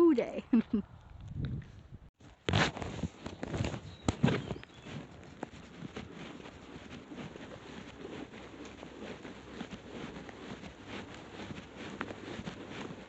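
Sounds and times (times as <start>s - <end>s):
faint footsteps: 2.3s - 13.0s
clothing rustle: 2.5s - 13.0s.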